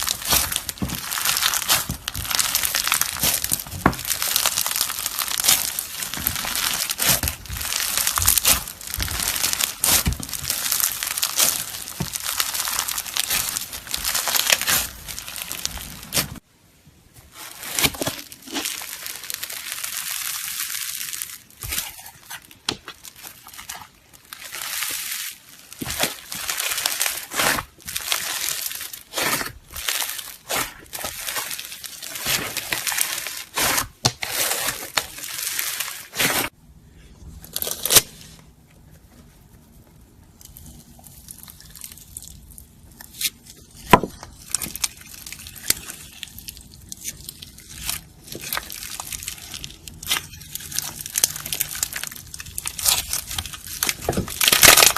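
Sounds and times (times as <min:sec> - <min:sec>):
slime squishing: 0:00.0 - 0:16.4, 0:17.2 - 0:54.9.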